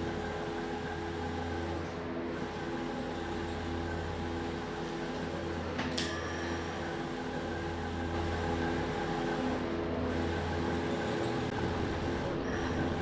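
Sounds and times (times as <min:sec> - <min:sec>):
electrical machinery humming: 0:00.0 - 0:13.0.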